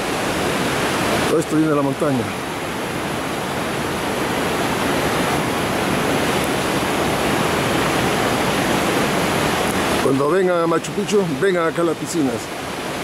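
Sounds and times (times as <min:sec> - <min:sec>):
fast-flowing river water: 0:00.0 - 0:13.0.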